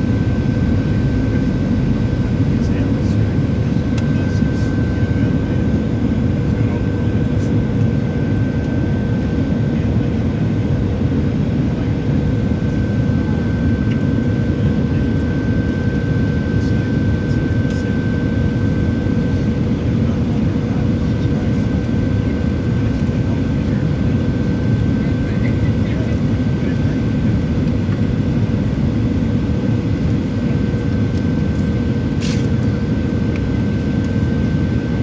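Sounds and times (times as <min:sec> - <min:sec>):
jet engine and airflow rumble: 0:00.0 - 0:35.0
mid-pitched hum: 0:00.0 - 0:35.0.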